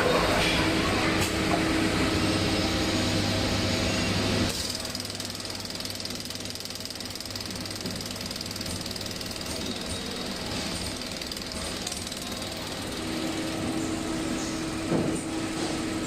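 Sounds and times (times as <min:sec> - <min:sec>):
welding machine humming: 0:02.1 - 0:16.0.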